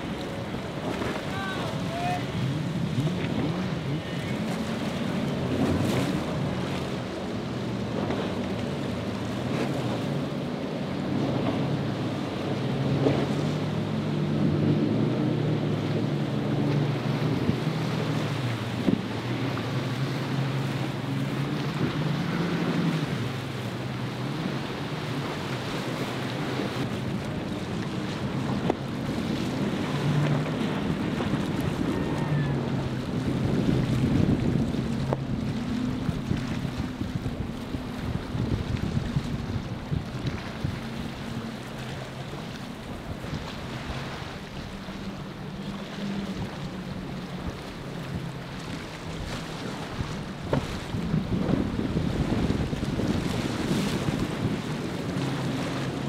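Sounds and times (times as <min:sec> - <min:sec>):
hull slapping through water: 0:00.0 - 0:56.0
outboard motors droning: 0:00.0 - 0:56.0
waves and spray washing: 0:00.0 - 0:56.0
wind on microphone: 0:00.0 - 0:56.0.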